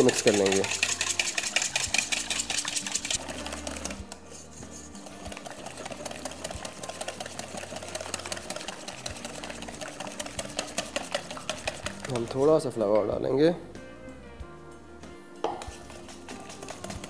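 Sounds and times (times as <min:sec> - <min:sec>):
whisk clattering in metal bowl: 0:00.0 - 0:13.1, 0:15.5 - 0:17.0.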